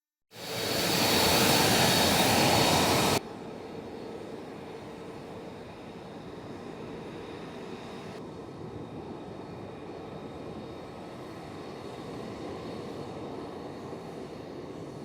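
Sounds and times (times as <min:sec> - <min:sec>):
jet engine running: 0:00.3 - 0:15.0.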